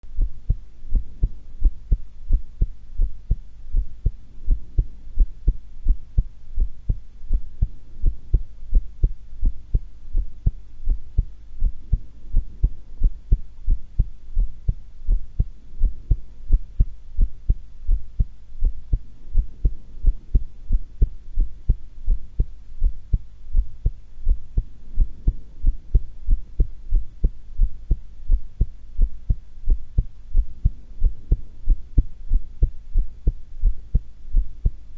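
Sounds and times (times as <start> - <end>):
heart beating: 0.1 - 34.8.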